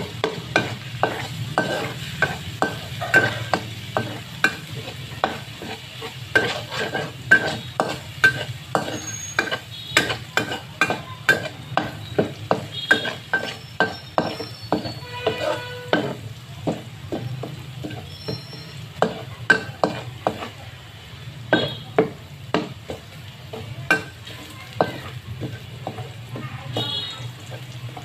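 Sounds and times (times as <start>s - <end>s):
food sizzling: 0.0s - 28.0s
spatula scraping and knocking wok: 0.0s - 28.0s.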